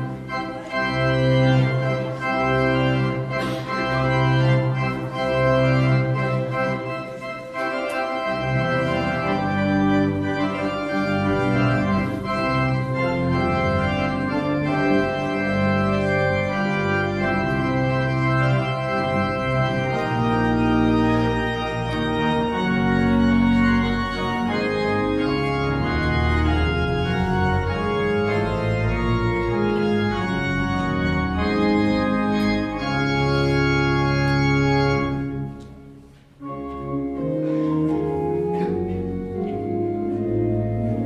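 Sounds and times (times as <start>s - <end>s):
church organ playing chords: 0.0s - 41.0s.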